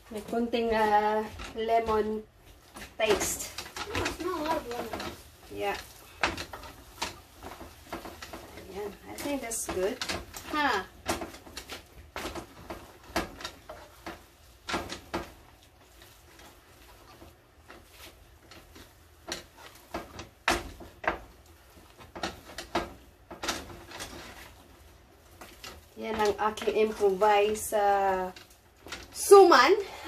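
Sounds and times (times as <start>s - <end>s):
utensils and cookware clattering: 0.0s - 30.0s.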